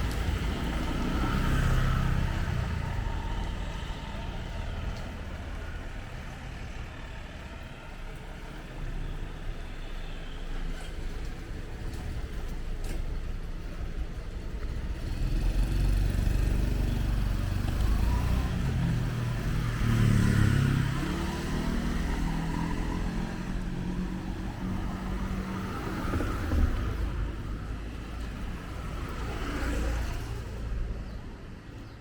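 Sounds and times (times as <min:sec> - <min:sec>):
traffic passing: 0:00.0 - 0:32.0.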